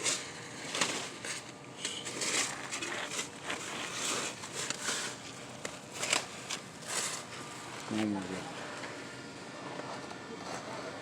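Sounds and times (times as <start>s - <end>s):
roofing scraping and crackling: 0.0s - 9.0s.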